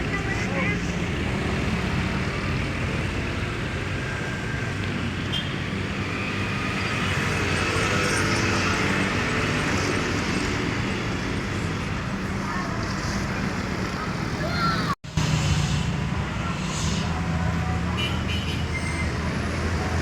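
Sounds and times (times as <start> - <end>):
buses and cars driving past: 0.0 - 20.0.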